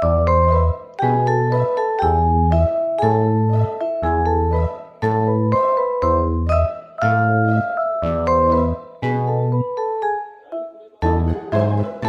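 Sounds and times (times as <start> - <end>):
light melody over bass line: 0.0 - 12.0.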